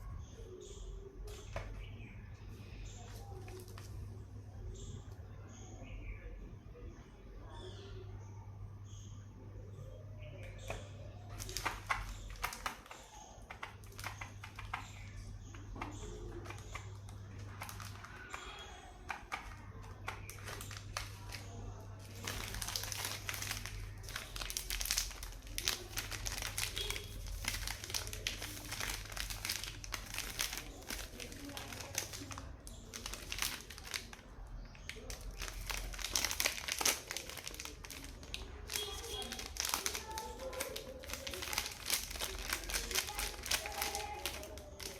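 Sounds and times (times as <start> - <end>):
candy wrappers crinkling: 0.0 - 5.6, 10.4 - 44.9.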